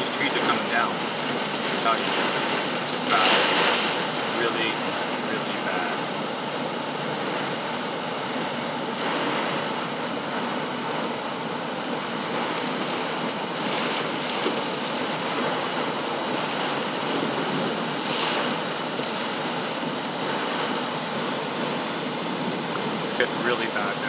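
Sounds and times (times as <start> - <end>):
heavy rain beating on a car: 0.0 - 24.0
wind gusts: 0.0 - 24.0.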